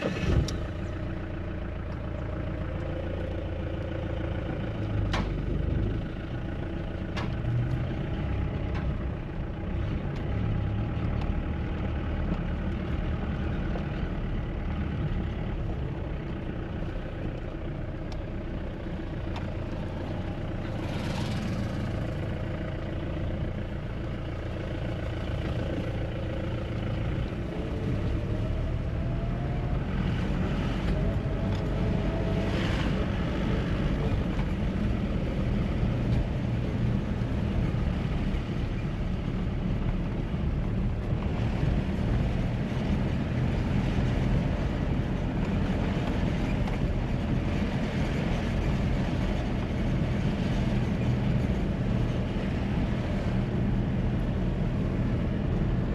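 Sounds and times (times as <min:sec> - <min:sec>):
diesel engine accelerating: 0:00.0 - 0:55.9
road noise: 0:00.0 - 0:55.9.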